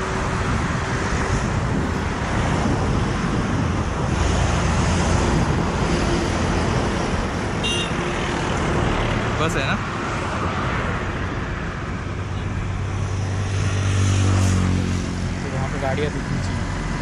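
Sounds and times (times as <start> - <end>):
vehicle engines passing: 0.0 - 17.0.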